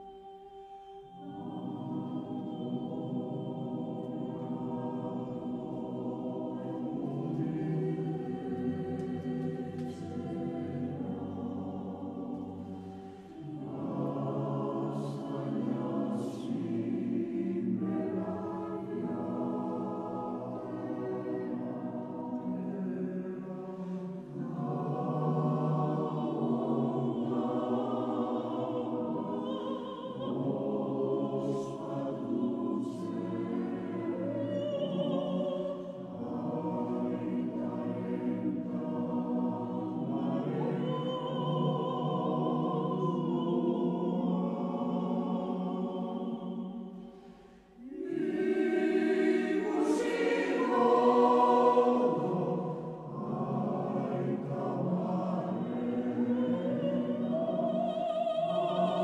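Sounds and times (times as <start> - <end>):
choir singing sustained notes: 0.0 - 59.0.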